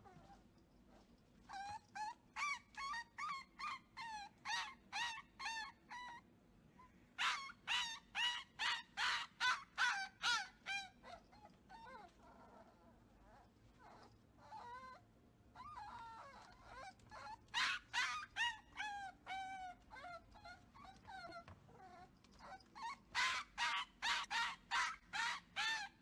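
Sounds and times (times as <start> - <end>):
puppy yipping: 0.0 - 6.2, 7.2 - 15.0, 15.6 - 26.0.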